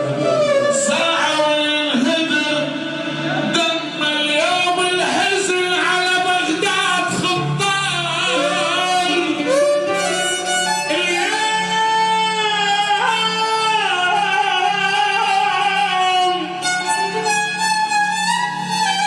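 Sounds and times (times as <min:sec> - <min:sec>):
sad song with bowed strings: 0:00.0 - 0:19.0.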